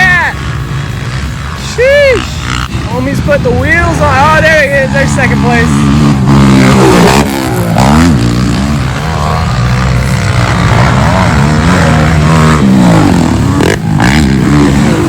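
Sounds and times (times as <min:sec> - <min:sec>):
atv engines revving: 0:00.0 - 0:15.0.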